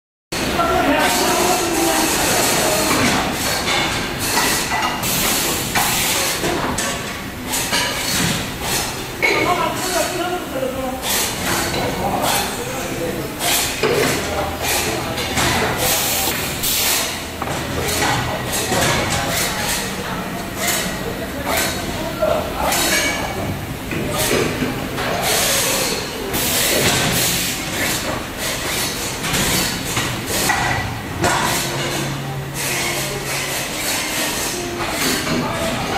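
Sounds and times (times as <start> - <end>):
low factory hum: 0.4 - 35.9.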